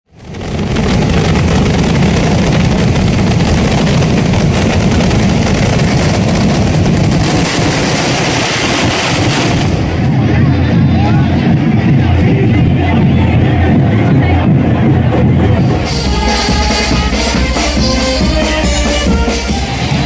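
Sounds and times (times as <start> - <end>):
fireworks banging and crackling: 0.1 - 12.9, 14.6 - 20.0.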